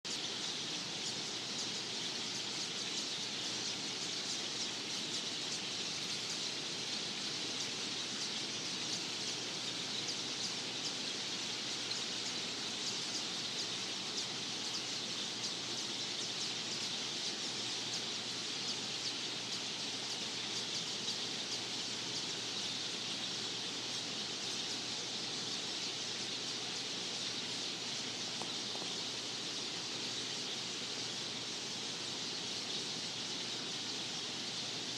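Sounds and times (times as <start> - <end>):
flock of birds chirping: 0.1 - 34.9.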